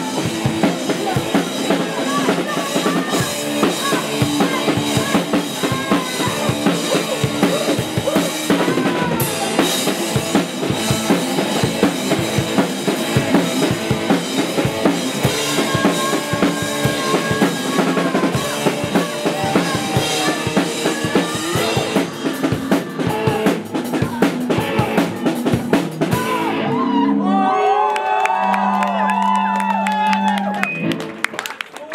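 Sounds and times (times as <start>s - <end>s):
drum kit pounding: 0.0s - 26.6s
live rock band playing: 0.0s - 26.8s
electric guitar: 0.0s - 27.1s.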